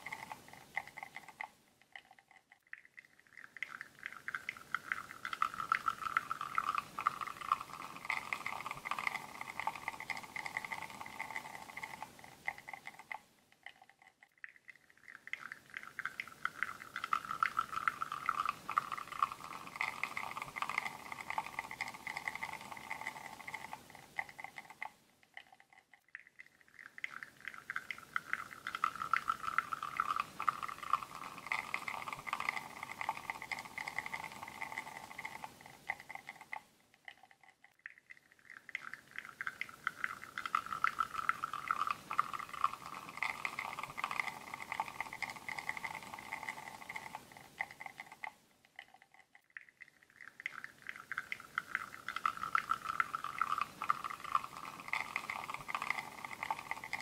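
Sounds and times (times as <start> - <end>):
espresso pouring into a cup: 0.0 - 36.6, 38.4 - 57.0.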